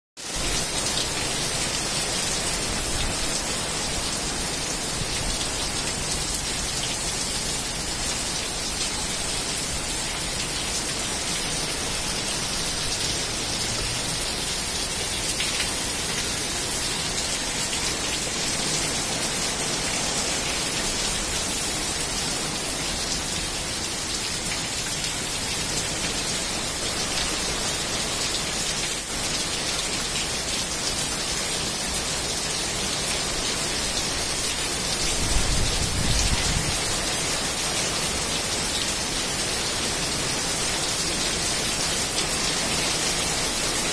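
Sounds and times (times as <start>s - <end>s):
heavy rain falling: 0.2s - 43.9s.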